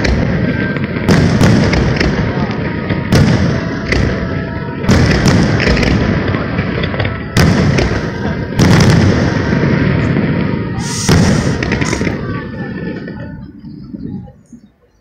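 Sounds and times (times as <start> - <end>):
fireworks booming with echo: 0.0 - 14.9.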